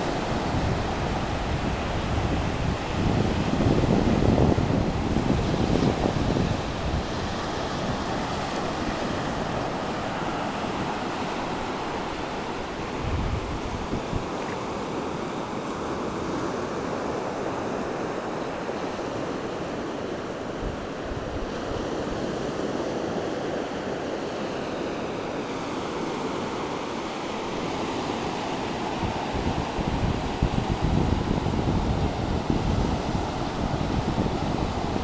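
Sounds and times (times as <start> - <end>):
waves breaking on shore: 0.0 - 35.0.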